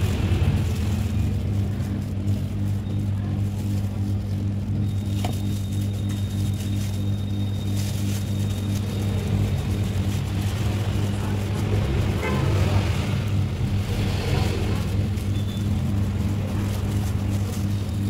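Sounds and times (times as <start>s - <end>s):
constant noise bed: 0.0s - 18.0s
low mechanical hum: 0.0s - 18.0s.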